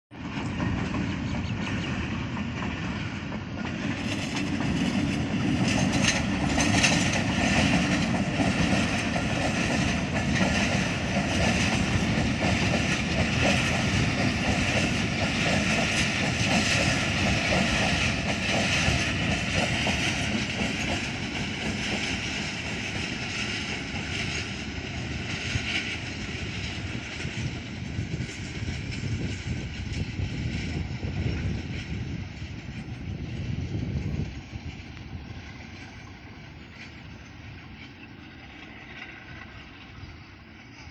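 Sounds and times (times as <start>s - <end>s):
train rumbling on rails: 0.1s - 40.9s
wheels clicking on rails: 0.2s - 40.1s.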